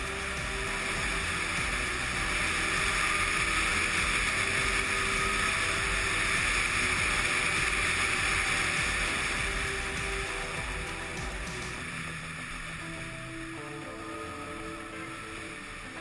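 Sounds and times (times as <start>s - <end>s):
low rumble: 0.0s - 16.0s
motorcycle road noise: 0.0s - 16.0s.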